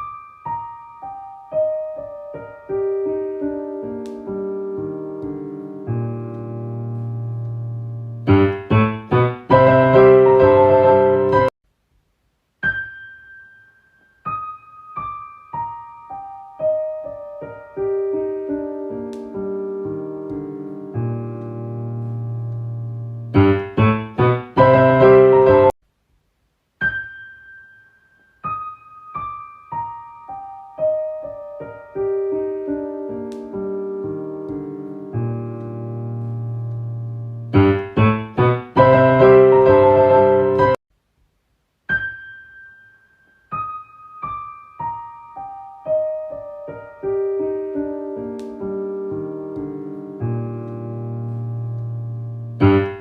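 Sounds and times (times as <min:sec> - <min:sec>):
piano music: 0:00.0 - 0:11.6, 0:12.6 - 0:25.8, 0:26.8 - 0:40.8, 0:41.9 - 0:53.0.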